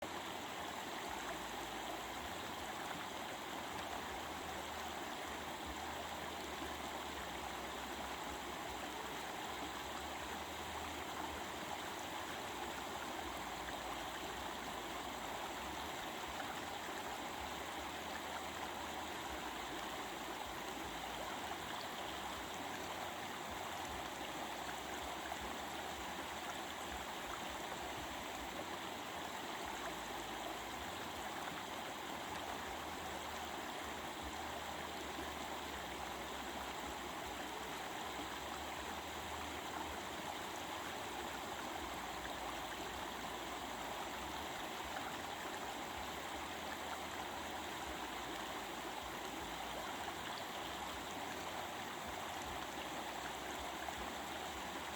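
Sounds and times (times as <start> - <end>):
stream babbling: 0.0 - 54.9.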